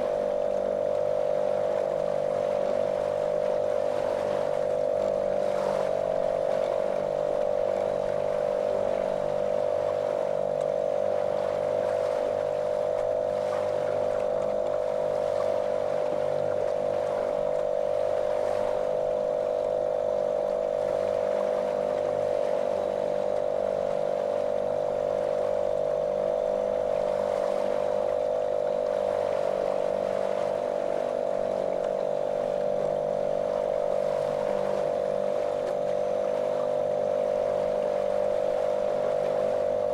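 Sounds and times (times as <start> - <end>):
outboard motor droning: 0.0 - 39.9.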